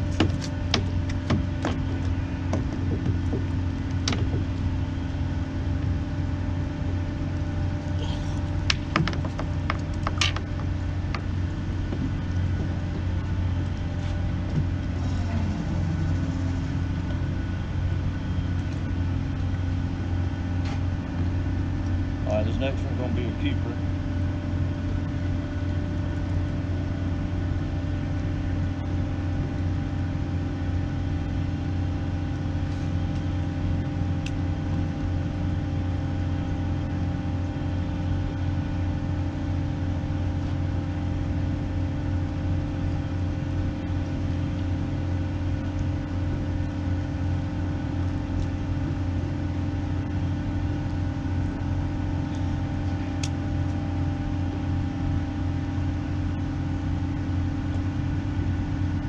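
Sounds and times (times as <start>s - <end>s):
ship engine droning: 0.0s - 59.0s.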